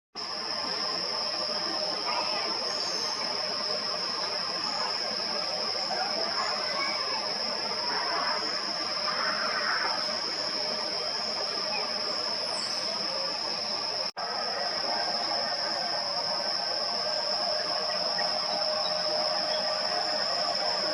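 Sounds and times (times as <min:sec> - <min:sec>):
constant high-pitched whine: 0:00.2 - 0:20.9.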